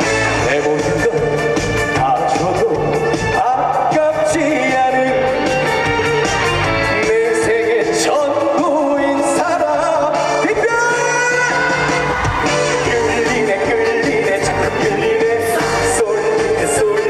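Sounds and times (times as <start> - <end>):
guitar: 0.0 - 17.0
live band music: 0.0 - 17.0
man singing: 0.0 - 17.0.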